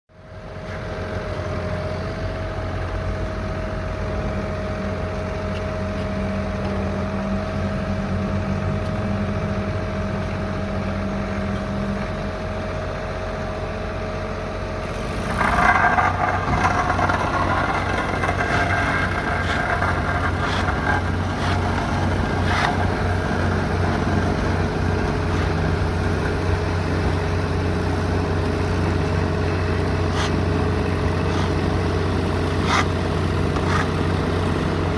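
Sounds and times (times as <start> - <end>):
paving machine engine running: 0.1 - 34.9.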